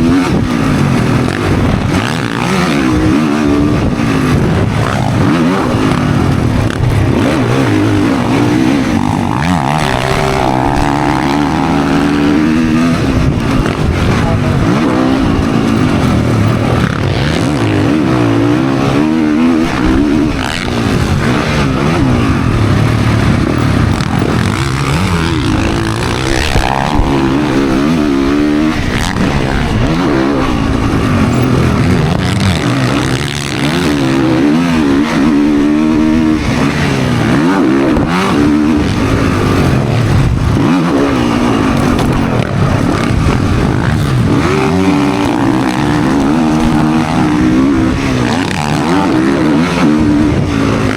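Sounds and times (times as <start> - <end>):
dirt bike engine revving: 0.0 - 50.9
wind noise: 0.0 - 50.9.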